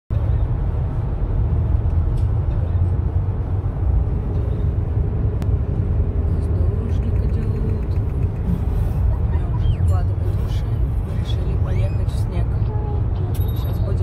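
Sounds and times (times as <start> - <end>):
car driving rumble: 0.1 - 14.0.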